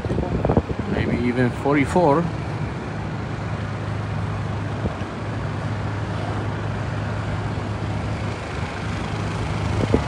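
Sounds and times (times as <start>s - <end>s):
low engine hum: 0.0s - 10.0s
street traffic: 0.0s - 10.0s.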